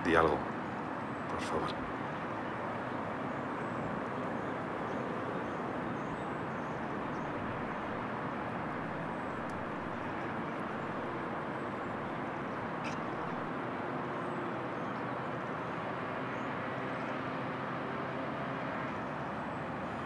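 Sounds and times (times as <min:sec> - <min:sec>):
distant traffic hum: 0:00.0 - 0:20.0.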